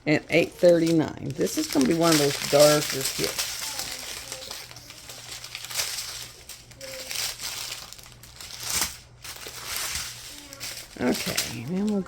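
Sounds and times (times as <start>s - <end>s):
plastic bags crinkling: 0.1s - 12.0s.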